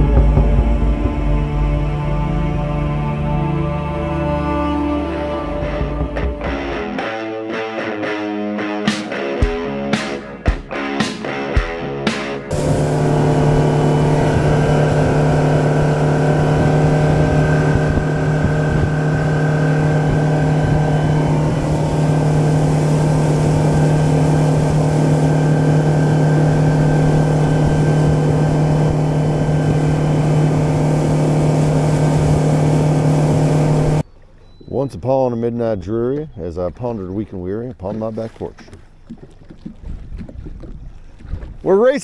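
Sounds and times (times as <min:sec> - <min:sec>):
outboard motor running: 0:00.0 - 0:06.9, 0:11.6 - 0:34.6, 0:36.2 - 0:41.6.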